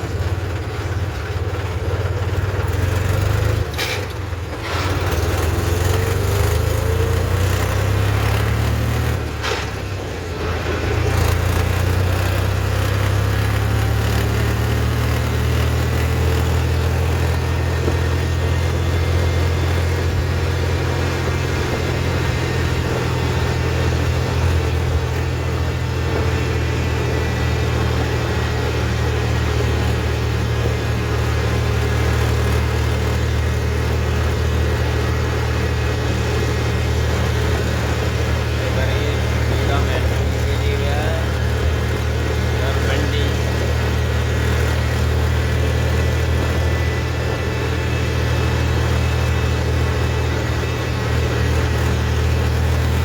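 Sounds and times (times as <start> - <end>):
tractor diesel engine droning: 0.0 - 53.0.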